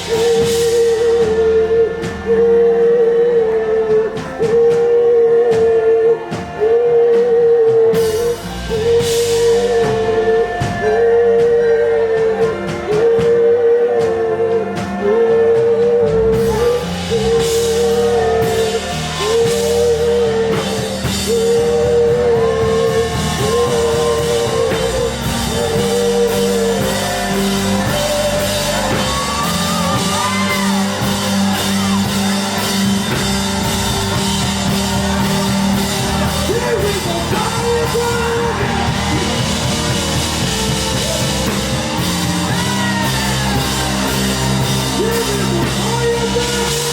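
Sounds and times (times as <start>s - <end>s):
drums: 0.0s - 46.9s
person singing: 0.0s - 46.9s
worship band playing: 0.0s - 46.9s.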